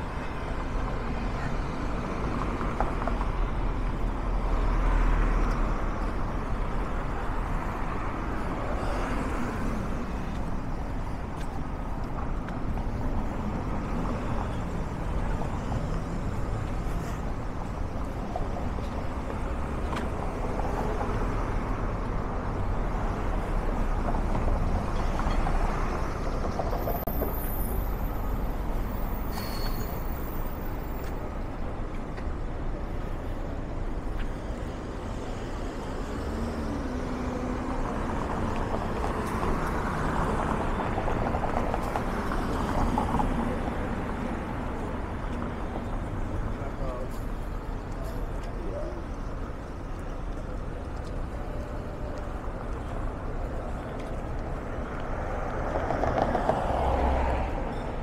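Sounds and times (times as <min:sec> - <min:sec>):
street traffic hum: 0:00.0 - 0:58.0.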